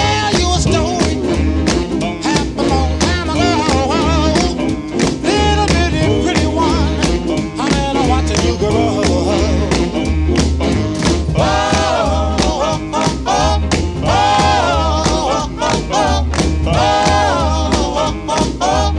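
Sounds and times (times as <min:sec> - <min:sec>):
upbeat swing music with singing: 0:00.0 - 0:18.9.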